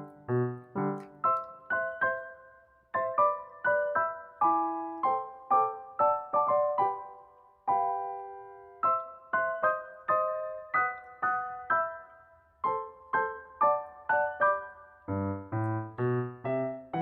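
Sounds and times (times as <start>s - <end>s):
keyboard playing chords: 0.0s - 17.0s.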